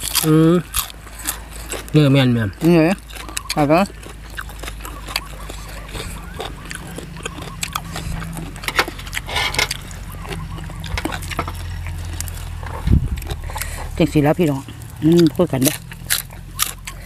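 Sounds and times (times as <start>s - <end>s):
chewing: 0.0s - 17.0s
low steady rumble: 0.0s - 17.0s.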